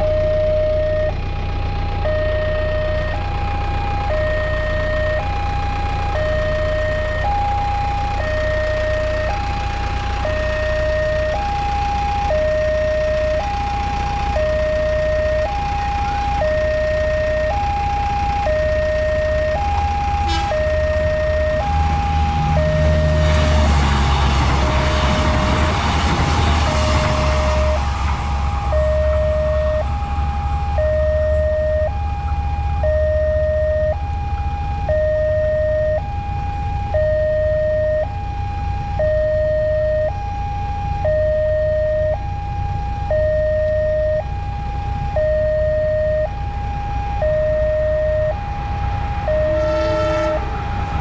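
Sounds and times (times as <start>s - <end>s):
level crossing two-tone alarm: 0.0s - 1.2s, 2.0s - 51.0s
train rumble: 0.0s - 37.1s, 46.2s - 51.0s.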